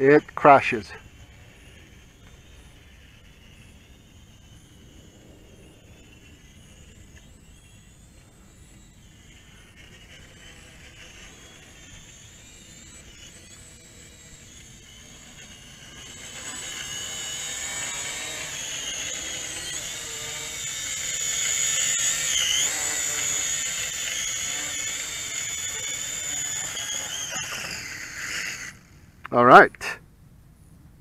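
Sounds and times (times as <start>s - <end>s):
quadcopter propellers whining: 0.0s - 30.0s.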